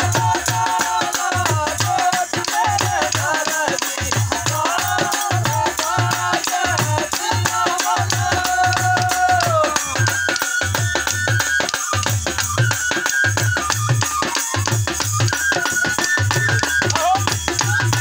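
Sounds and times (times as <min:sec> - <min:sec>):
drum beating steady rhythm: 0:00.0 - 0:18.0
rattling percussion: 0:00.0 - 0:18.0.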